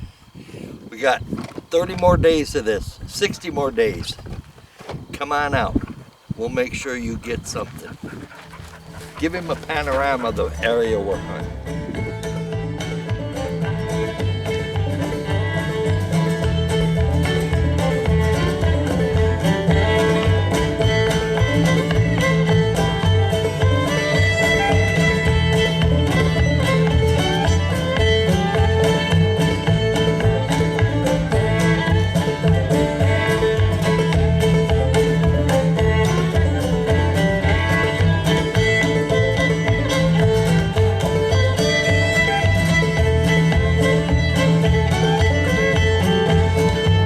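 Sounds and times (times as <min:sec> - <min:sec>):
fiddle: 0:04.7 - 0:47.0
banjo: 0:06.7 - 0:47.0
steady bass beat: 0:08.6 - 0:47.0.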